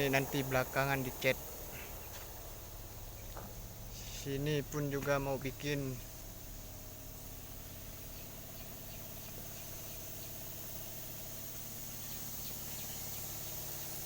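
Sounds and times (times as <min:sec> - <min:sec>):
engine idling: 0:00.0 - 0:14.0
high insect drone: 0:00.0 - 0:14.0.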